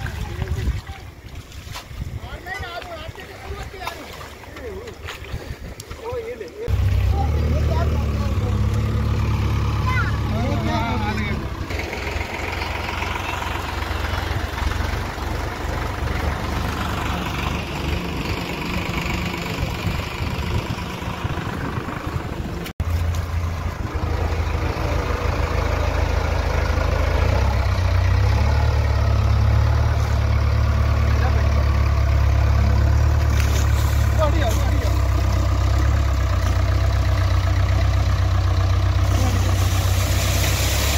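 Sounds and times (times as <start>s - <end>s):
diesel engine rumbling: 6.4s - 40.9s.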